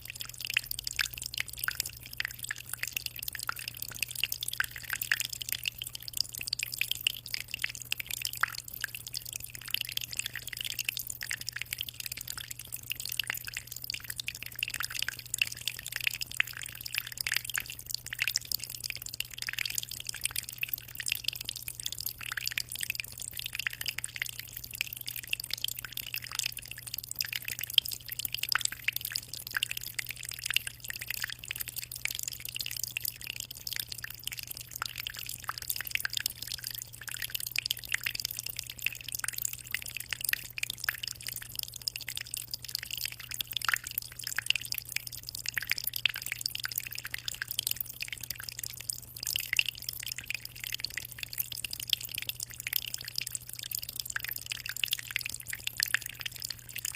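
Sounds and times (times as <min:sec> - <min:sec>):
aquarium water trickling: 0:00.0 - 0:56.9.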